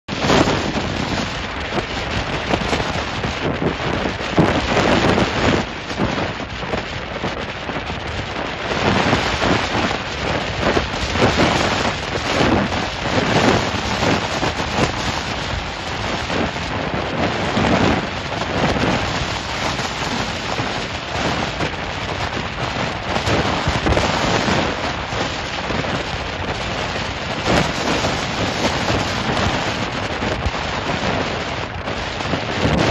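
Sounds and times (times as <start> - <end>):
strong wind: 0.0 - 32.9
storm surf against rocks: 0.1 - 32.9.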